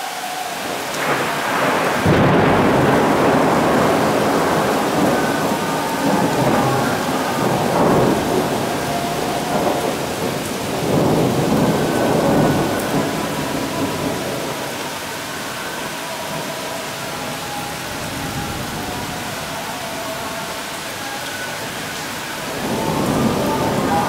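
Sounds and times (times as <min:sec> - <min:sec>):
heavy rain: 0:00.0 - 0:24.0
thunder rumbling: 0:00.0 - 0:24.0.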